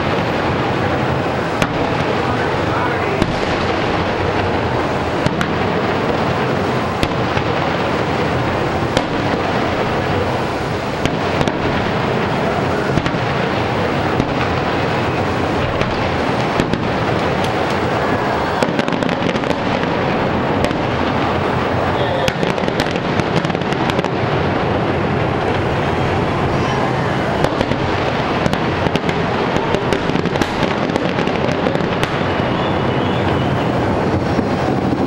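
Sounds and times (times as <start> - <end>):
rumble of firework bursts: 0.0 - 35.0
sharp firework cracks: 0.0 - 35.0.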